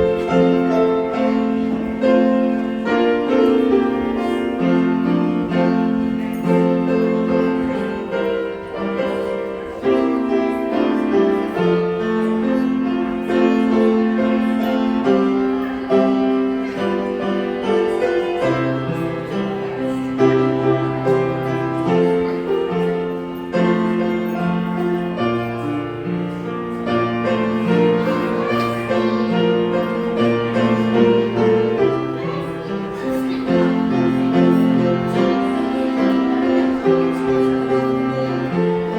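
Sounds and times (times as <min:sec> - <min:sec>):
piano music: 0:00.0 - 0:38.9.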